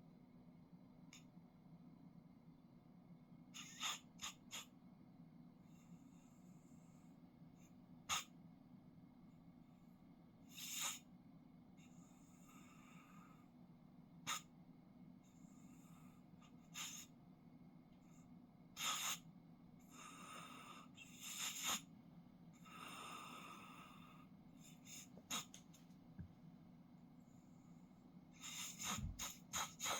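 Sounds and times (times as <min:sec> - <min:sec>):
steady low hum: 0:04.7 - 0:29.9.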